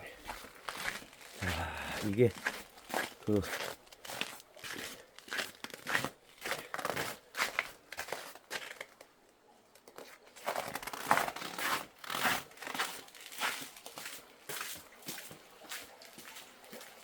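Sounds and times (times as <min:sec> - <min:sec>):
footsteps crunching in snow: 0:00.2 - 0:08.9, 0:10.4 - 0:16.4.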